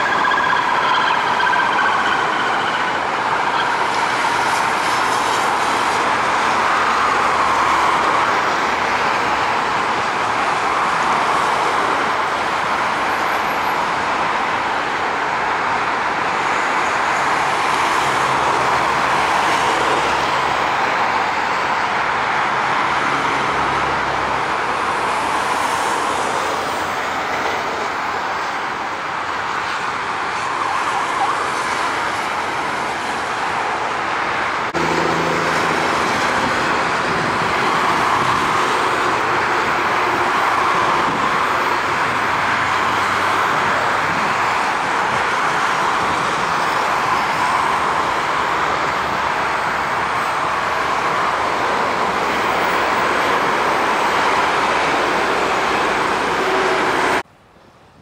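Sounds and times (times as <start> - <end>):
jet engines whine and rush: 0.0 - 57.3.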